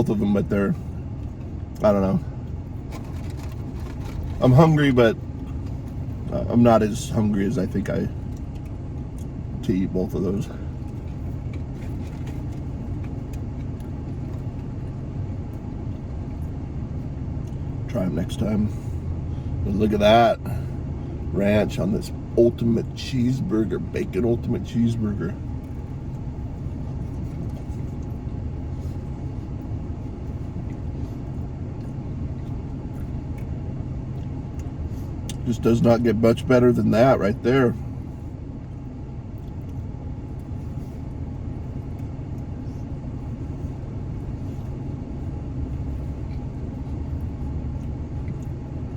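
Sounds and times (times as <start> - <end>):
low rumble with hum: 0.0 - 48.9
vehicle engine idling: 0.0 - 48.9.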